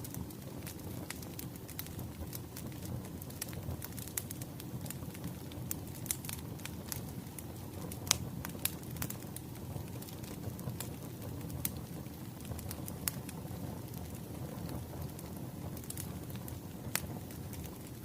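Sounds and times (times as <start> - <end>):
fire crackling: 0.0 - 18.0.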